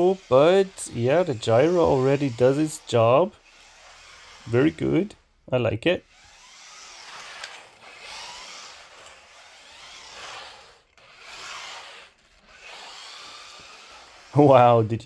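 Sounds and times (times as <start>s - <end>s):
rc car tyres scrubbing hiss: 0.0s - 5.2s, 6.1s - 15.0s.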